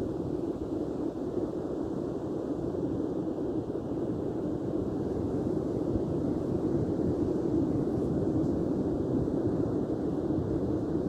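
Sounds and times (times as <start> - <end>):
rumble of surf and wind: 0.0 - 11.0.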